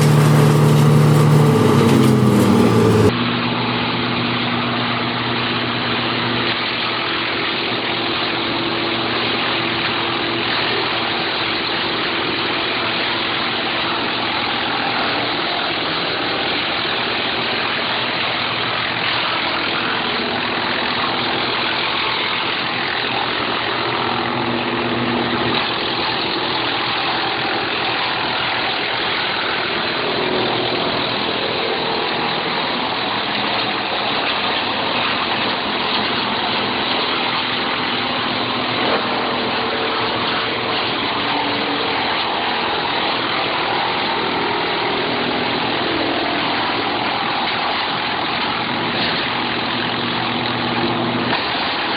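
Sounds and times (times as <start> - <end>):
constant rushing noise: 0.0 - 51.9
machine engine humming: 0.0 - 51.9.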